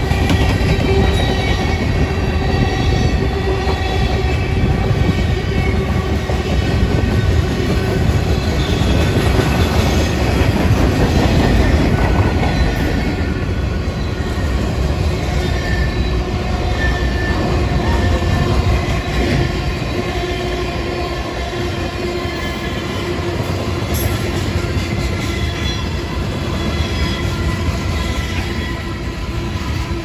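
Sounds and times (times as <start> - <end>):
steel train wheels rumbling on rail: 0.0 - 30.0.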